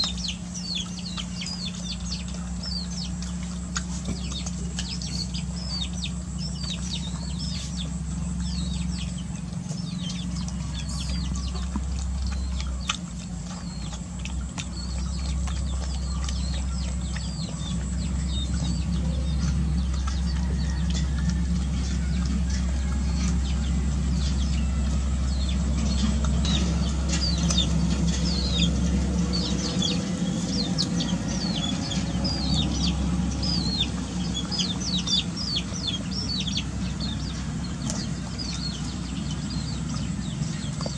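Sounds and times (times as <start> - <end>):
puppies lapping from bowl: 0.0 - 40.9
small birds chirping: 0.0 - 40.9
steady low hum: 0.0 - 40.9.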